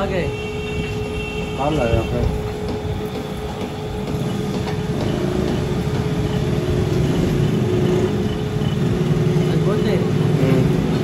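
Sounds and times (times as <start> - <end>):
workshop machine humming: 0.0 - 11.0.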